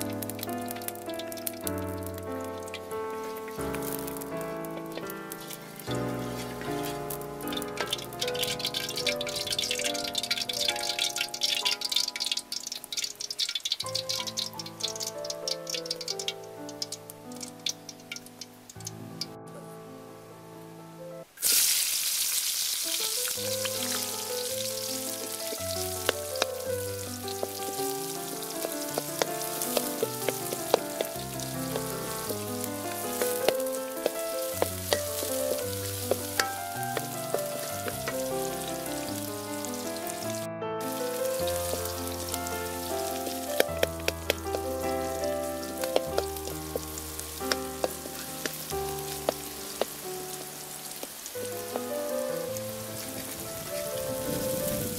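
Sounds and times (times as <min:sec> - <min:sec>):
background music: 0:00.0 - 0:13.4, 0:23.4 - 0:54.9
hot oil sizzling in a wok: 0:00.0 - 0:19.3, 0:21.3 - 0:54.9.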